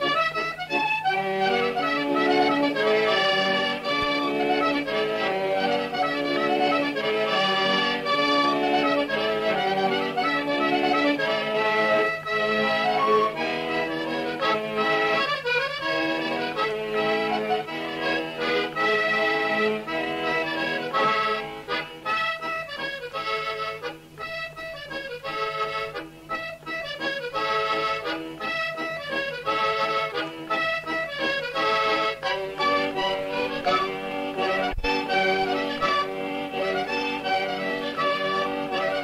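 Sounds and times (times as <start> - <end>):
accordion dance tune: 0.0 - 39.0.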